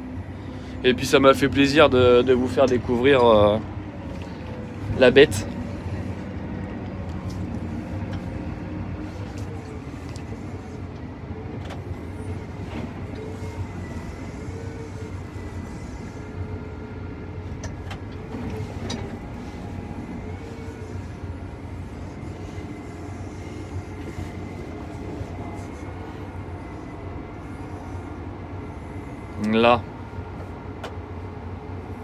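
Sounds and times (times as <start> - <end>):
tractor engine droning: 0.0 - 32.0.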